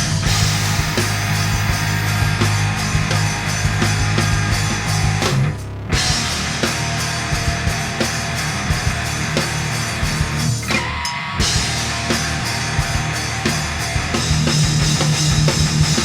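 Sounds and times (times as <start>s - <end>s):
distorted electric guitar: 0.0s - 16.0s
drum kit beat: 0.0s - 16.0s.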